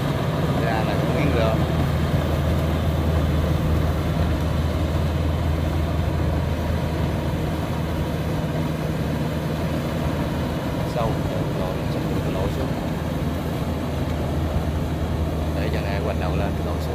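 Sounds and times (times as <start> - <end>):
combine harvester engine humming: 0.0 - 16.9.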